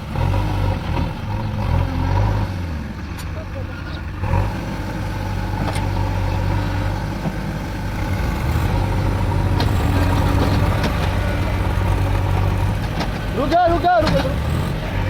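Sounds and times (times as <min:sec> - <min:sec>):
diesel engines droning: 0:00.0 - 0:15.0.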